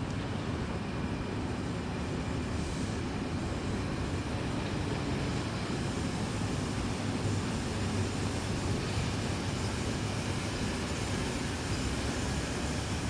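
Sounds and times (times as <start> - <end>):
electric train low rumble: 0.0 - 13.0.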